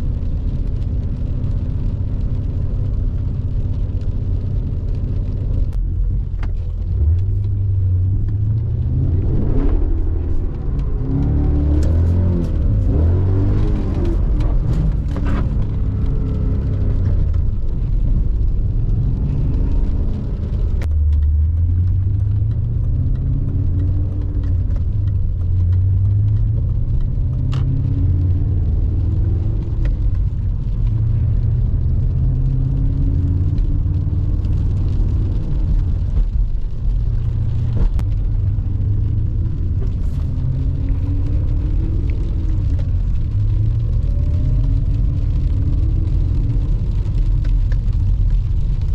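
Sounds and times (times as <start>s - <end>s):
car engine rumbling while driving: 0.0s - 48.9s.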